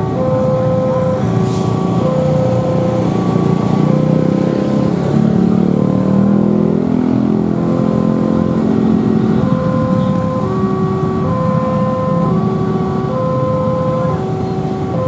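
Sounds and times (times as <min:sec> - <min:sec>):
level crossing two-note alarm: 0:00.0 - 0:15.0
passing vehicle engine hum: 0:00.0 - 0:15.0.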